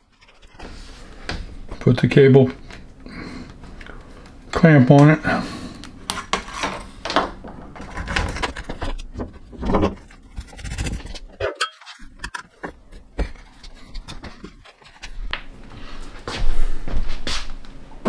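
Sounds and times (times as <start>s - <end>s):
cable rustling and scraping: 0.0s - 4.4s, 6.1s - 17.6s.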